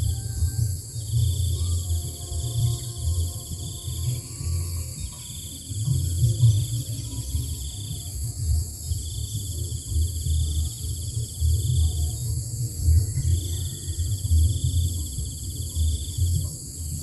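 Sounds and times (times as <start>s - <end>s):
high insect chorus: 0.0s - 17.0s
insects trilling: 0.0s - 17.0s
uneven low rumble: 0.0s - 17.0s.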